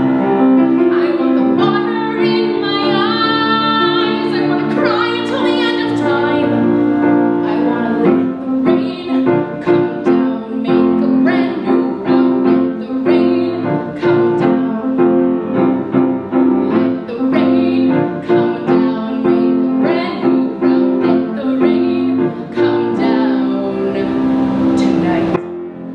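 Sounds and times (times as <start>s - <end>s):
piano chords: 0.0s - 25.9s
woman singing: 0.6s - 15.4s, 16.5s - 25.4s.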